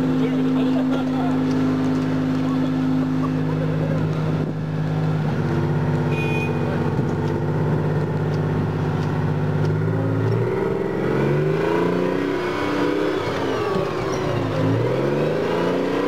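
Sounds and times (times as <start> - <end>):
tracked vehicle engine running: 0.0 - 16.0.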